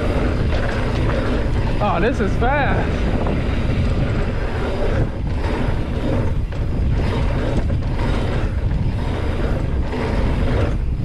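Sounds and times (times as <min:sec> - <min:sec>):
bicycle freehub ticking: 0:00.0 - 0:11.0
tyres on dirt: 0:00.0 - 0:11.0
wind rumble on microphone: 0:00.0 - 0:11.0.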